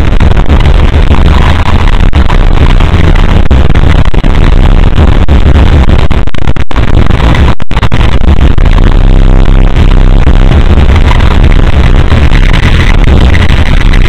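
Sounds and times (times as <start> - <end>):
heavily distorted noisy audio: 0.0 - 14.0.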